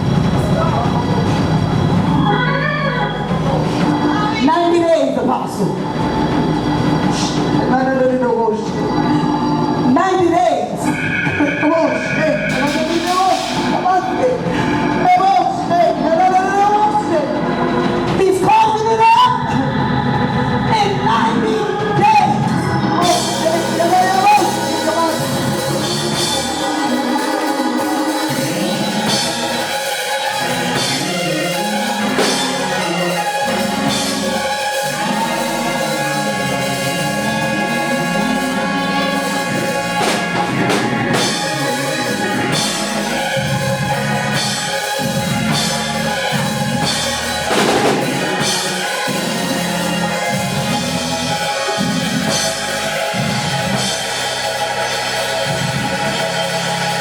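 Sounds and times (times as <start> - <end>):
drum kit: 0.0 - 19.3, 20.0 - 57.0
church band music: 0.0 - 57.0.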